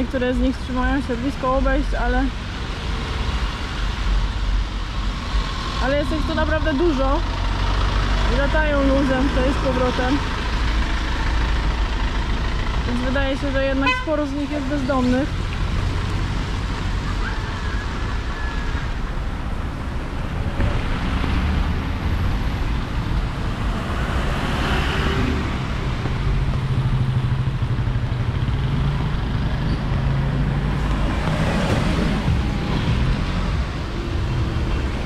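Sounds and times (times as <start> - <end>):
cars passing on a road: 0.0 - 35.0.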